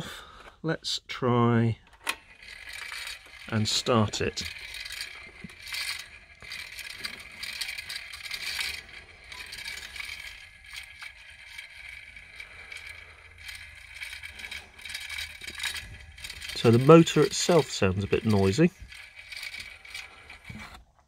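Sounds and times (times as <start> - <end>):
metallic rattling: 2.0 - 20.8.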